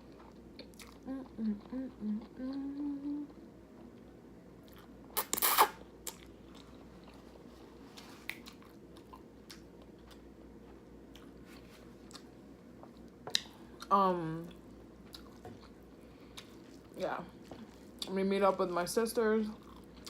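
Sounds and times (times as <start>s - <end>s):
person chewing food: 0.0s - 13.9s, 14.5s - 18.1s, 19.6s - 20.0s.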